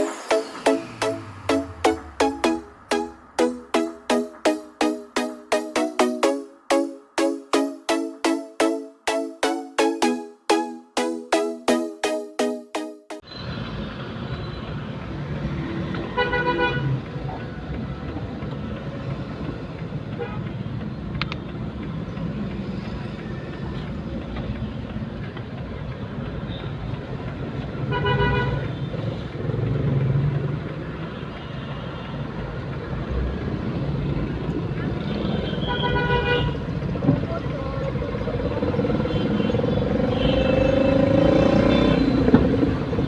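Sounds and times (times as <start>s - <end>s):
road traffic and engine noise: 0.0s - 4.9s, 13.2s - 43.0s.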